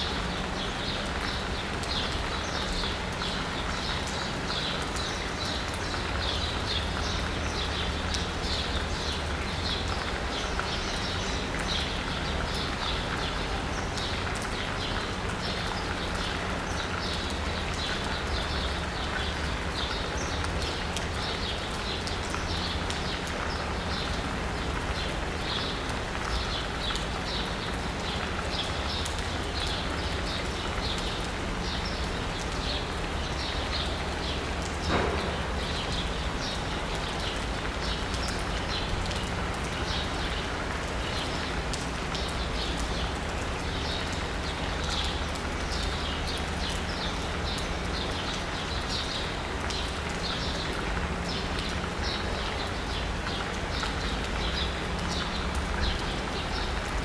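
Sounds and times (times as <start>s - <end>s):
low city rumble: 0.0s - 57.0s
rain on asphalt and rooftops: 0.0s - 57.0s.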